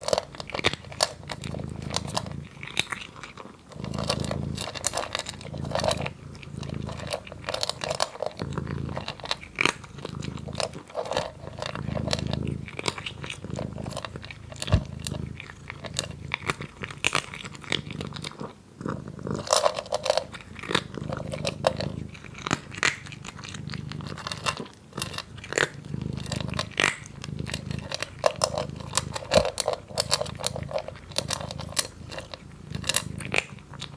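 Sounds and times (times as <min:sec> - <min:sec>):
cat crunching dry kibble: 0:00.0 - 0:33.9.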